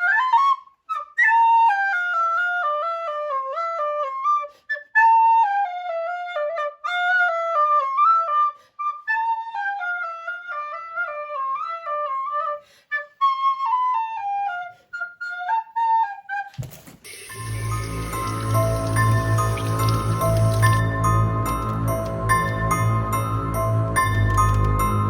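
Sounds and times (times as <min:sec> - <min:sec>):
solo flute melody: 0:00.0 - 0:23.1.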